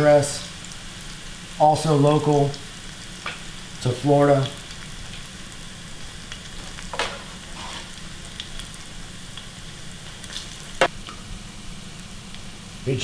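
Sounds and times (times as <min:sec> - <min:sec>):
shallots sizzling in hot oil: 0:00.0 - 0:12.8.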